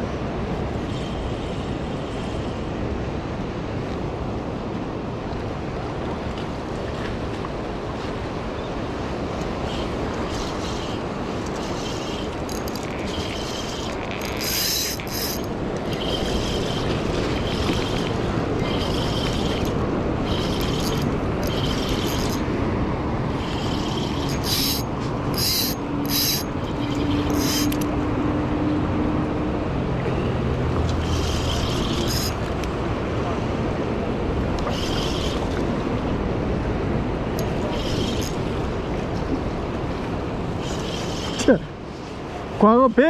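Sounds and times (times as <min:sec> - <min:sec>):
wind: 0:00.0 - 0:43.0.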